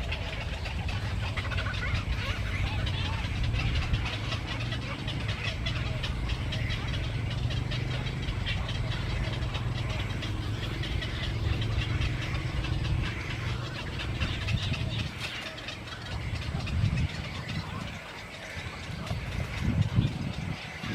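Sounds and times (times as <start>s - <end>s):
flock of birds chattering: 0.0s - 20.9s
low rumble: 0.0s - 20.9s.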